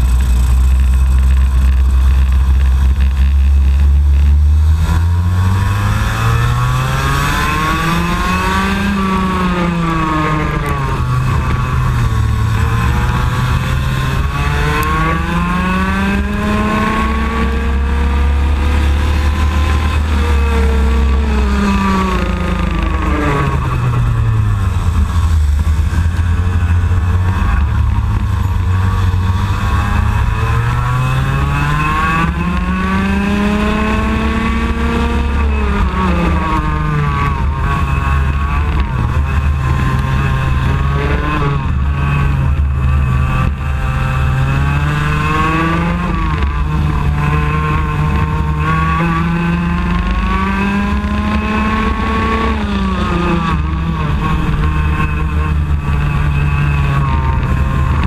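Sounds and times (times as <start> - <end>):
kart engine at racing speed: 0.0 - 58.0.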